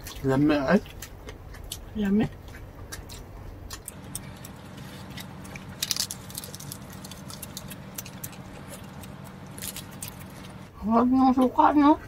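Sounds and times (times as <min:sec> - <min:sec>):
chewing: 0:00.0 - 0:10.7
steady low hum: 0:00.0 - 0:12.0.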